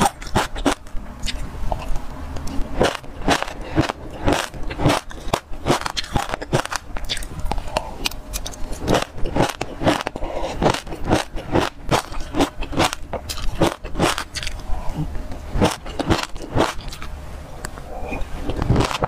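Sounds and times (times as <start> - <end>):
seeds crunching while chewed: 0.0 - 19.0.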